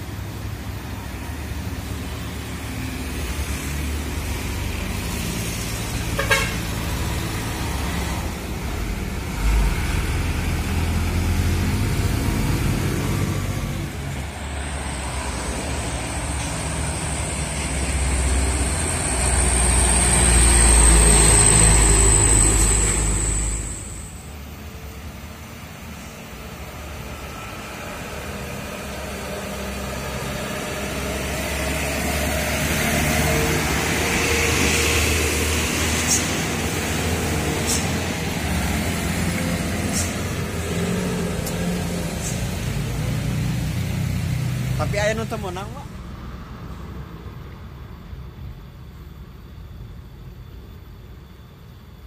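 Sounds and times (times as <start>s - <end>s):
high engine whine: 0.0s - 52.0s
road noise: 0.0s - 52.0s
truck engine rumble: 0.0s - 52.0s.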